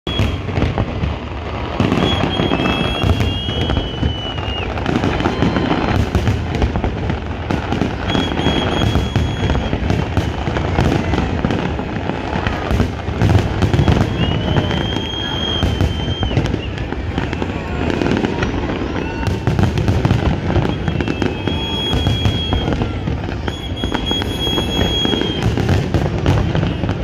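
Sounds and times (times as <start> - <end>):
fireworks booms and crackling: 0.0 - 27.0
high firework whistle: 0.0 - 27.0.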